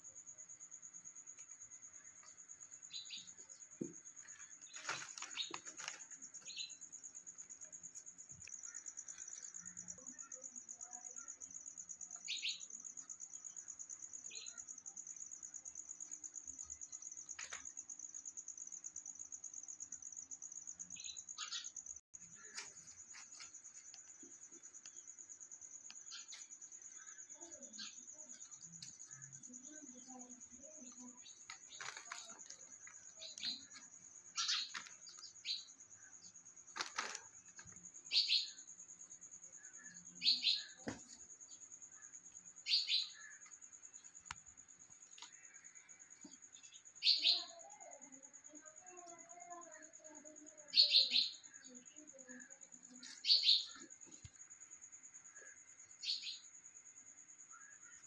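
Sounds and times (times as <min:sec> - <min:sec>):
pulsing insect trill: 0:00.0 - 0:58.0.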